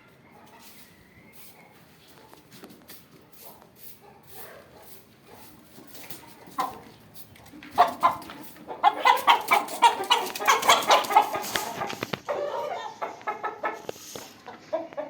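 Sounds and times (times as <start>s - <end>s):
chickens clucking: 0.0s - 2.8s, 5.3s - 15.0s.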